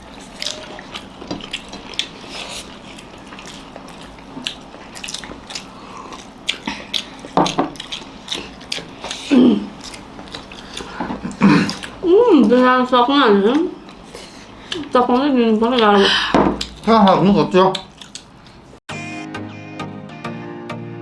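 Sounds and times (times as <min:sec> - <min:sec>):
people chewing and lip smacking: 0:00.0 - 0:12.7, 0:13.4 - 0:17.0, 0:17.6 - 0:18.8.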